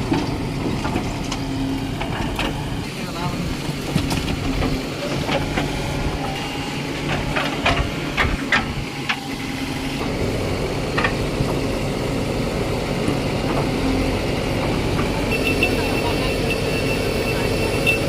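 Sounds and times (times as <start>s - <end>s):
heavy diesel machinery running: 0.0s - 18.0s.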